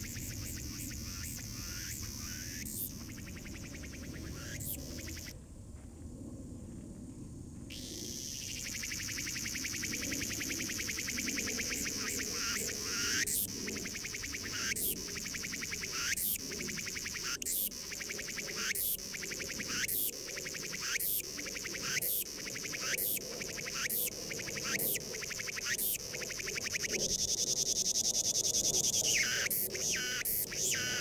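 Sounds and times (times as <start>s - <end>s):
cicada singing: 0.0s - 5.4s, 7.7s - 31.0s.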